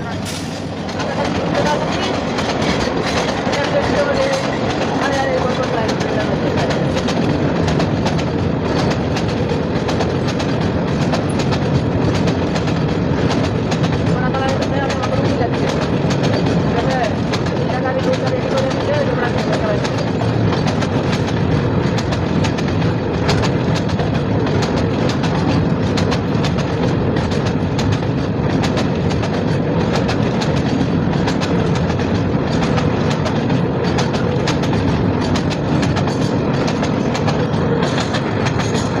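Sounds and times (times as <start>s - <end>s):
freight train rumbling: 0.0s - 39.0s
train wheels clattering on rail joints: 0.0s - 39.0s.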